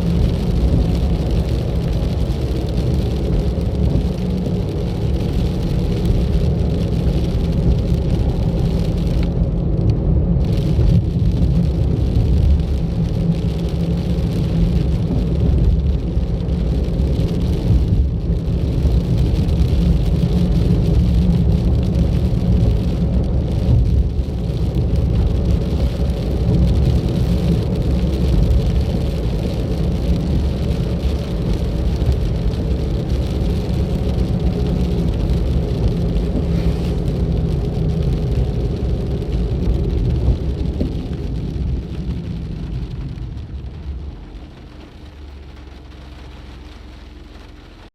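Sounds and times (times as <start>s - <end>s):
car engine: 0.0s - 47.9s
tyres rumbling on road: 0.0s - 47.9s.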